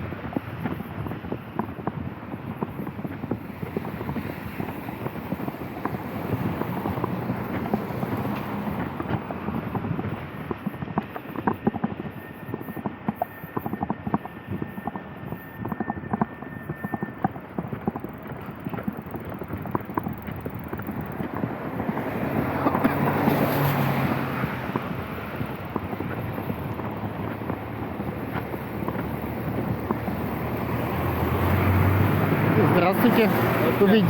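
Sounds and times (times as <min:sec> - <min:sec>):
street noise: 0:00.0 - 0:34.0.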